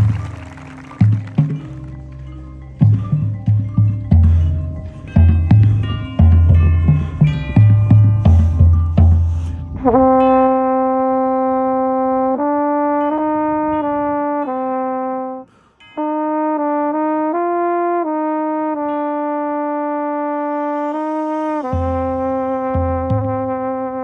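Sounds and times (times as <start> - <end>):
mellophone slow melody: 0.0 - 24.0.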